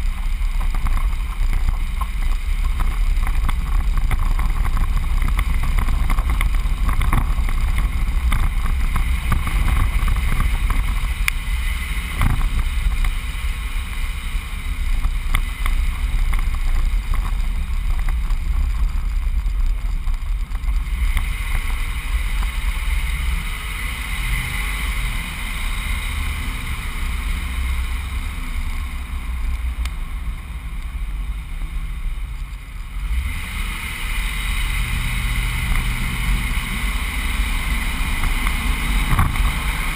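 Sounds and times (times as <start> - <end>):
truck engine and road noise: 0.0 - 39.9
wind noise: 0.0 - 39.9.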